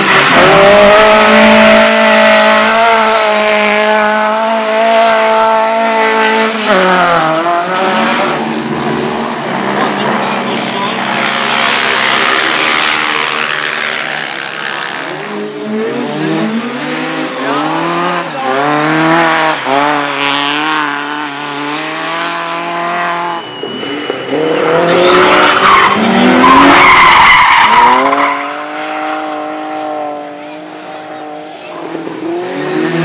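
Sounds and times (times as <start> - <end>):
race car engine revving: 0.0 - 33.0.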